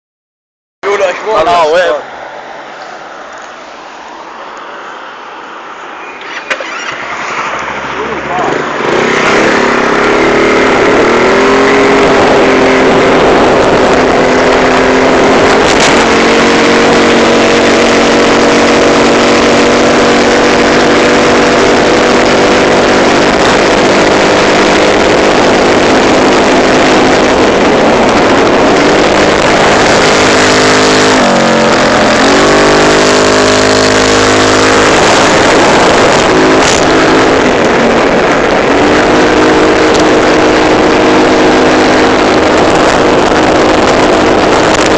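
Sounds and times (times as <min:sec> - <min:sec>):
scooter engine revving: 0:06.0 - 0:44.9.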